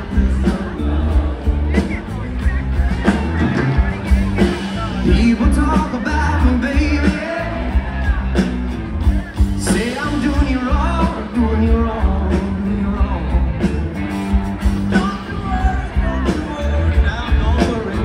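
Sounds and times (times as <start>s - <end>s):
person singing: 0.0s - 8.4s, 9.1s - 13.9s, 14.8s - 18.0s
live rock band playing: 0.0s - 18.0s.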